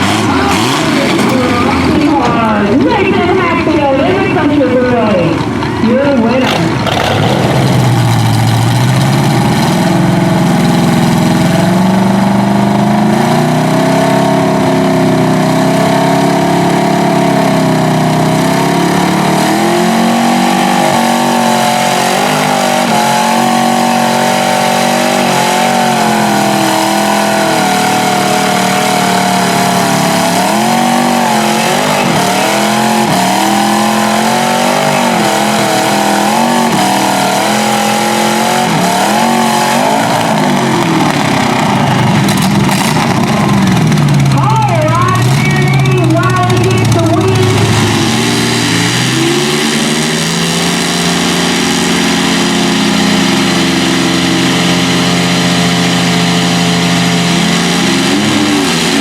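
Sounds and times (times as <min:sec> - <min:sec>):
truck engines at high revs: 0:00.0 - 0:59.0.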